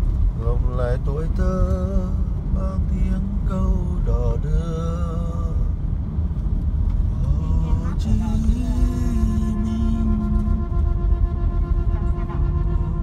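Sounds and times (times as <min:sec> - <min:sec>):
engine and road noise rumble: 0:00.0 - 0:13.0.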